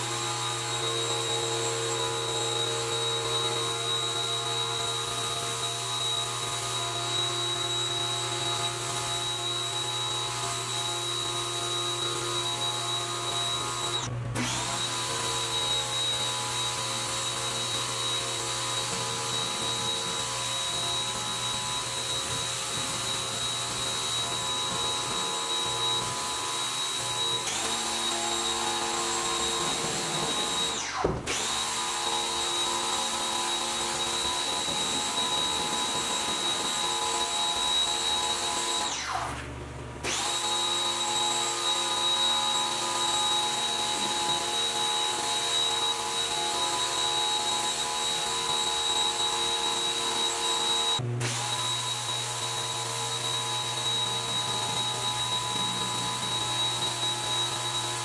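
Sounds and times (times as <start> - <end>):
pressure washer whine: 0.0 - 58.0.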